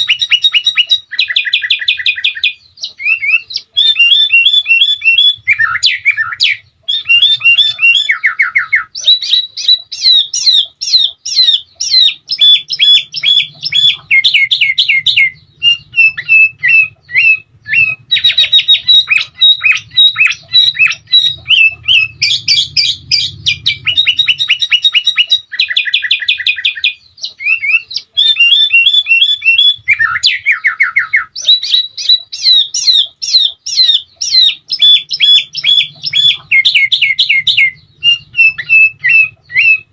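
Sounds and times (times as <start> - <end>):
bird singing chattering trills: 0.0 - 39.9.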